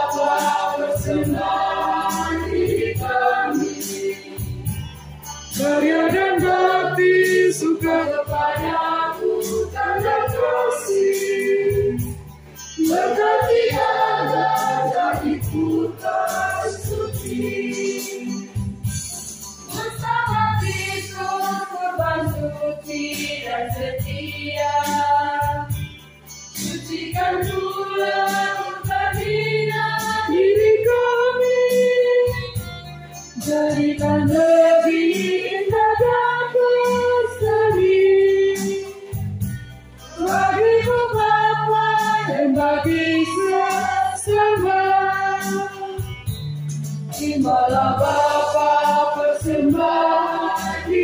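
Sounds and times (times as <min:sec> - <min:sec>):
choir singing a hymn: 0:00.0 - 0:04.8, 0:05.5 - 0:18.7, 0:19.7 - 0:25.8, 0:26.6 - 0:32.5, 0:33.4 - 0:39.2, 0:40.0 - 0:46.3, 0:47.1 - 0:51.0.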